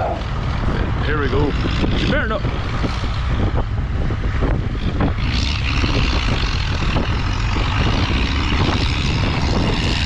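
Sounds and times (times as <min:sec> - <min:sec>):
tractor engine roaring under load: 0:00.0 - 0:10.0.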